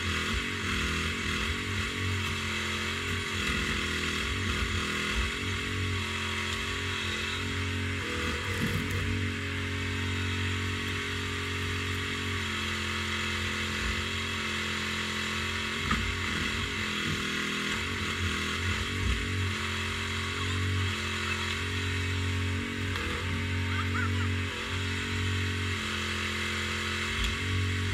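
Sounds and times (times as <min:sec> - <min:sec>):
excavator diesel engine running: 0:00.0 - 0:14.4, 0:15.4 - 0:27.9.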